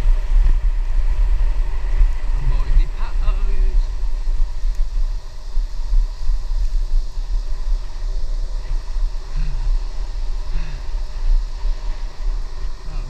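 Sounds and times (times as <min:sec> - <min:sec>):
tyres hissing on wet pavement: 0:00.0 - 0:13.0
wind buffeting microphone: 0:00.0 - 0:13.0.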